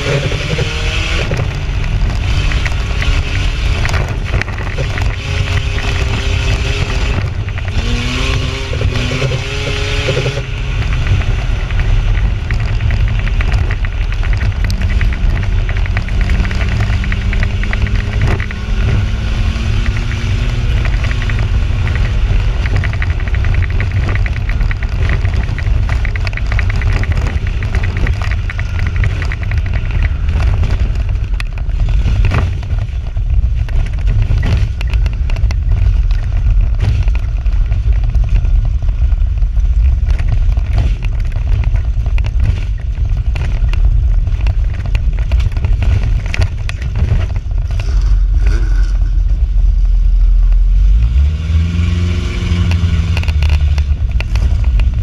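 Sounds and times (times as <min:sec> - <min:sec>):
engine rumble from inside cab: 0:00.0 - 0:55.0
rattling and clatter: 0:00.0 - 0:55.0.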